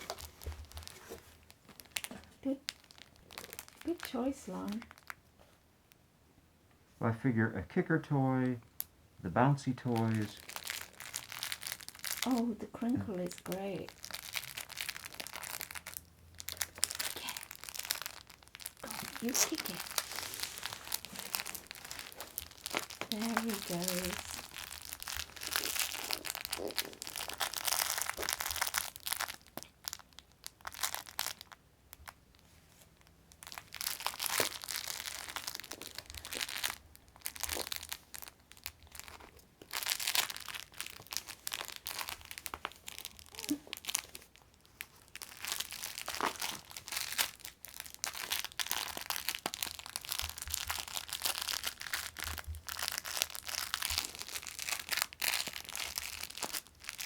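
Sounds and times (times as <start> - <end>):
crinkle toy rustling and crackling: 0.0 - 6.0, 8.4 - 57.0.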